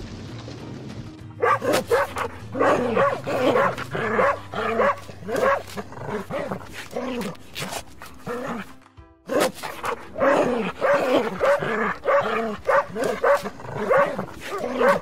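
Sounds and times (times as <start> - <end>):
dog barking: 1.4 - 8.7, 9.3 - 15.0.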